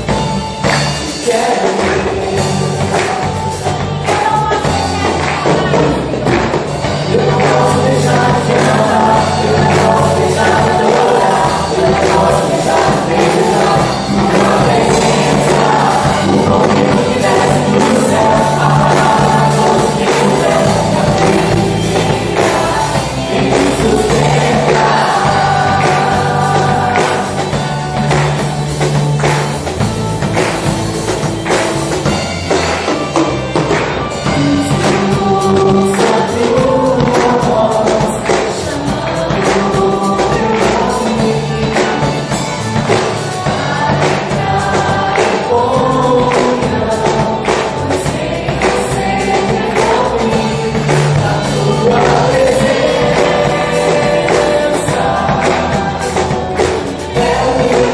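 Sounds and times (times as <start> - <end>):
band with steady drum beat: 0.0 - 57.9
voices singing together: 0.0 - 57.9.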